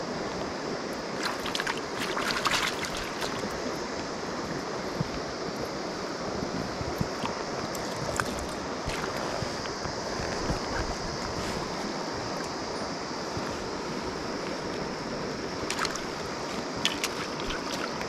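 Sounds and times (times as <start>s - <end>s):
river water running: 0.0s - 18.0s.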